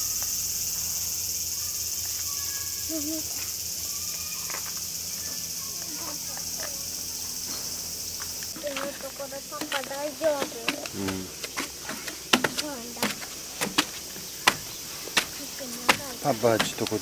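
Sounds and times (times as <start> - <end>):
cicadas droning: 0.0 - 17.0.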